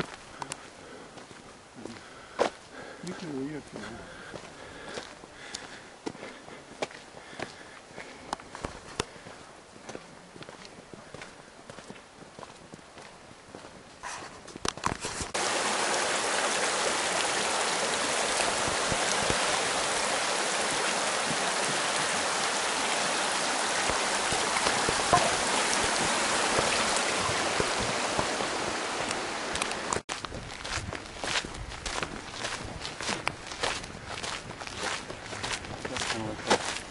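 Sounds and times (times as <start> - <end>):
creek running over rocks: 0.0 - 13.8, 14.8 - 36.9
footsteps on dirt trail: 0.0 - 15.5, 17.6 - 36.9.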